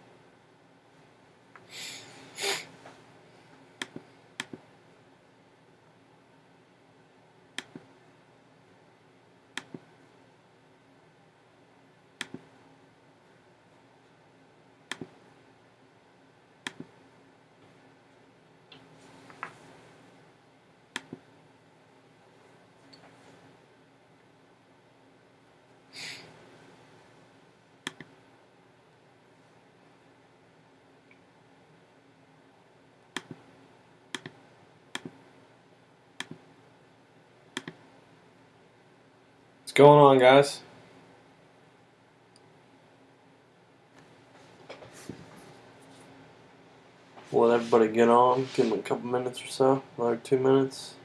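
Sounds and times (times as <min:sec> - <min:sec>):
faint room noise: 0:00.0 - 0:51.0.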